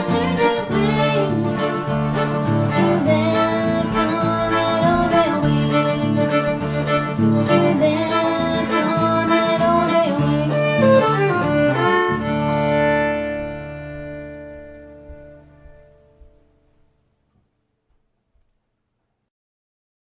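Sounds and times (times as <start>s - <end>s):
fiddle: 0.0s - 16.4s
strummed guitar: 0.0s - 16.9s.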